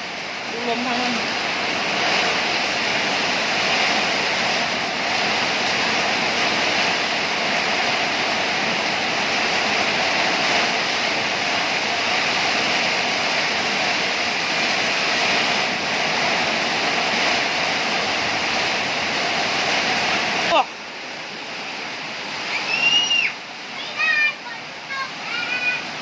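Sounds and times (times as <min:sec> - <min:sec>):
heavy rain pouring: 0:00.0 - 0:26.0
strong wind: 0:00.0 - 0:26.0.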